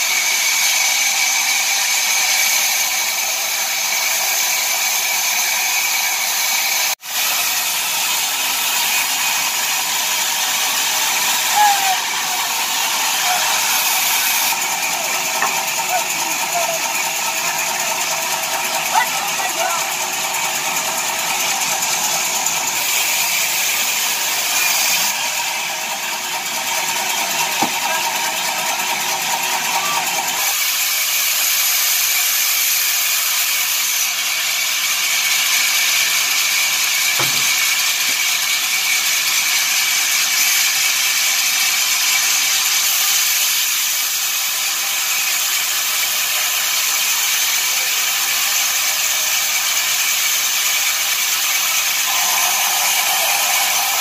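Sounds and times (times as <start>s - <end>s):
sawmill machinery rattling: 0.0s - 54.0s.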